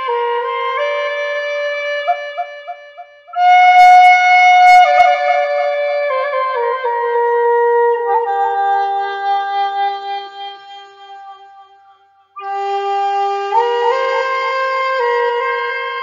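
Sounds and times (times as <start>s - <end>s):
flute playing slow melody: 0.0s - 11.8s, 12.4s - 16.0s.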